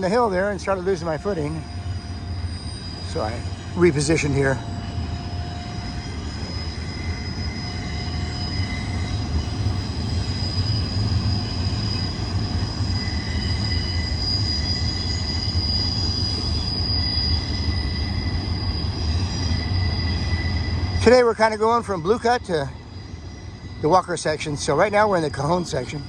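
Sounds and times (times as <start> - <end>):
freight train rumbling past: 0.0 - 26.0
high-pitched wheel squeal: 0.0 - 26.0.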